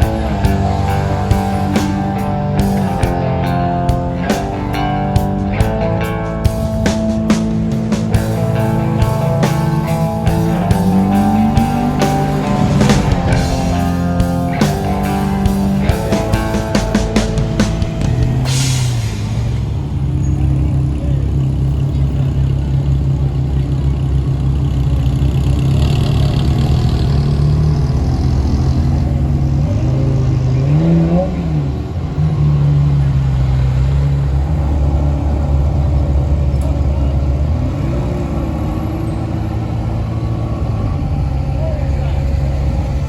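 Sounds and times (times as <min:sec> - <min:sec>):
vehicle engine running and revving: 0:00.0 - 0:43.0.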